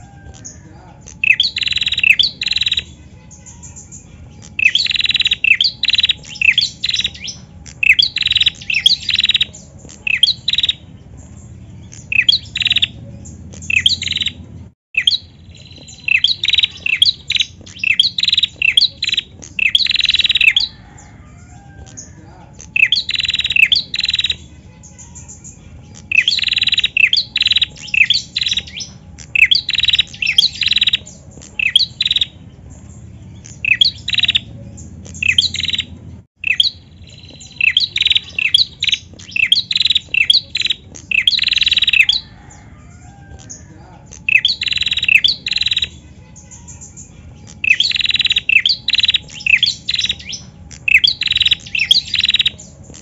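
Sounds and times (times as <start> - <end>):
bird sharp high chirps: 0.0 - 53.0.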